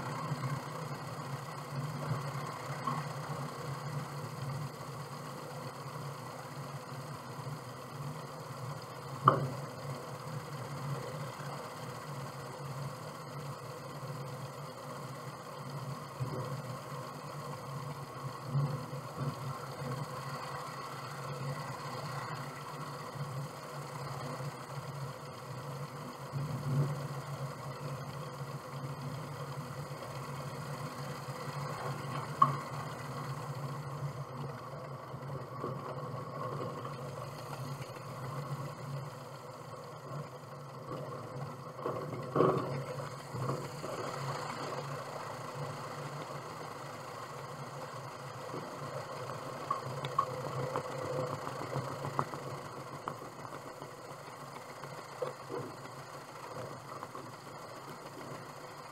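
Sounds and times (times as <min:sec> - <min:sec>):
propeller aircraft engine droning: 0:00.0 - 0:58.9.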